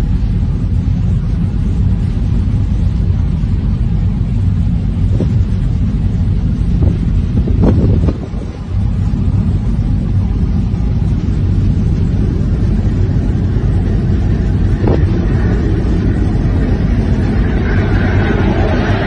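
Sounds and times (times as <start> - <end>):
ship under way: 0.0 - 19.0
wind rumble on microphone: 0.0 - 19.0.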